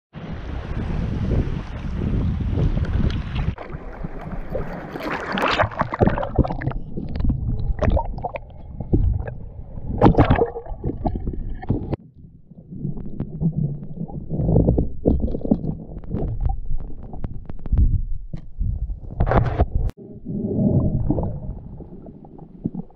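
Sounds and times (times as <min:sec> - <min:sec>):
underwater rumble and gurgling: 0:00.2 - 0:22.9
water sloshing and splashing: 0:01.4 - 0:22.9
bubbling bursts: 0:03.3 - 0:22.9.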